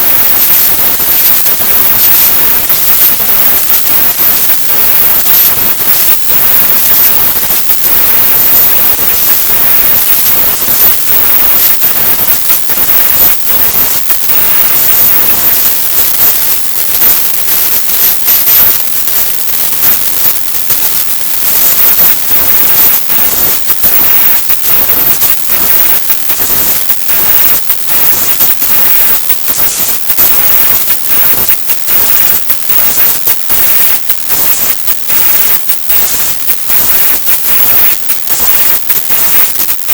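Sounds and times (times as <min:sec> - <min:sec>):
harsh distorted static hiss: 0:00.0 - 0:39.9.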